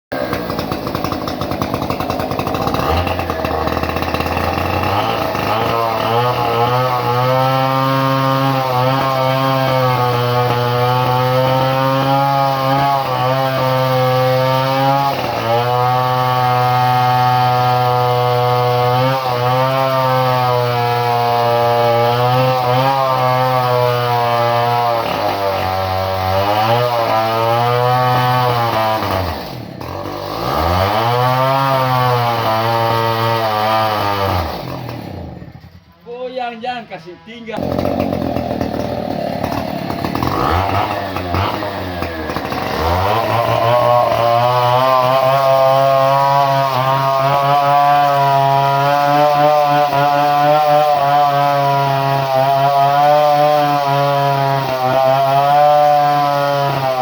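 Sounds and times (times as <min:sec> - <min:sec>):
chainsaw engine running: 0:00.1 - 0:57.0.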